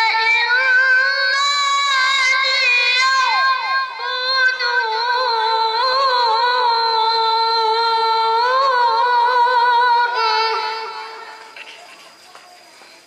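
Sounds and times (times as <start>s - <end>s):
child reciting melodically: 0.0s - 13.0s.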